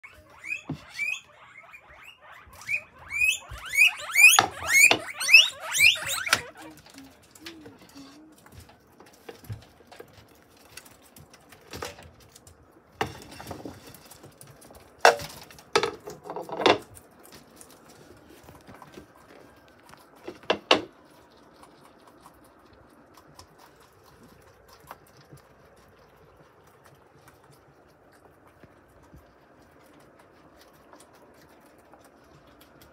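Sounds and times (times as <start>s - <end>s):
guinea pigs rustling in cage: 0.0s - 32.9s.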